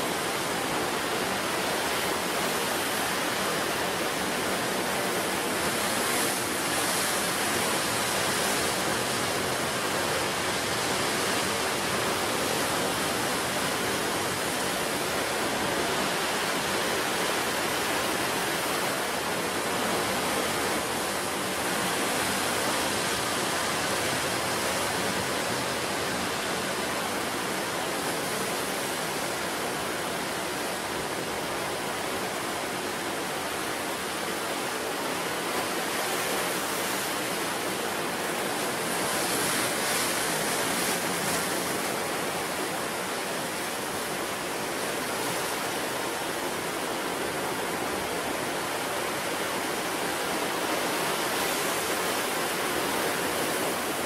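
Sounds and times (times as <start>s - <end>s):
sea surf washing on shore: 0.0s - 54.0s.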